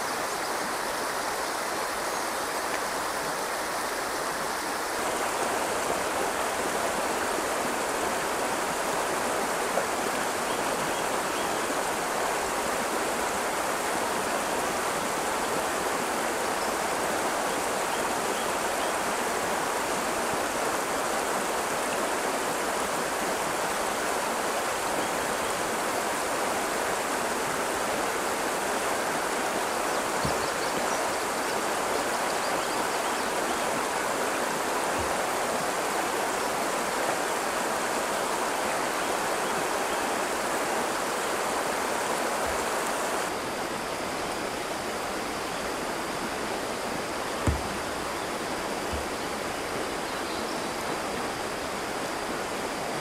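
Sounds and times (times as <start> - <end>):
river water rushing over rocks: 0.0 - 53.0.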